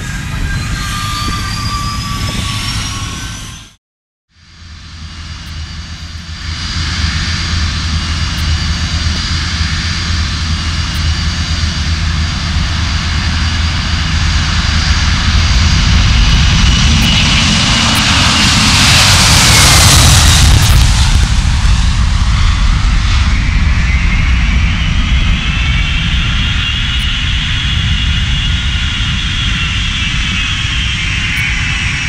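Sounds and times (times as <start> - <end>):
jet engines rumbling and whining: 0.0 - 32.0.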